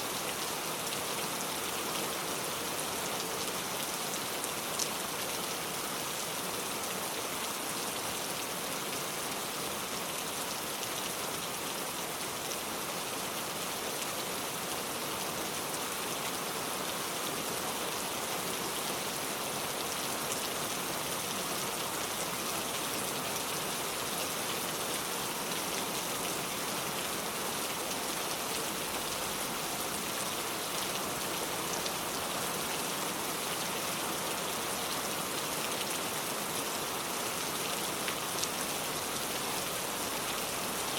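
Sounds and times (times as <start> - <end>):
rain falling on a car: 0.1 - 40.9.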